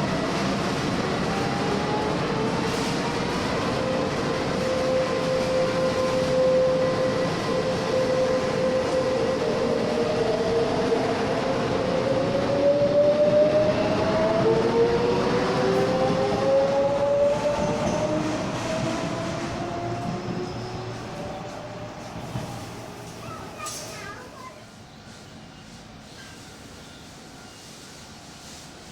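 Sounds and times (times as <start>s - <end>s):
train rumbling on rails: 0.0s - 28.9s.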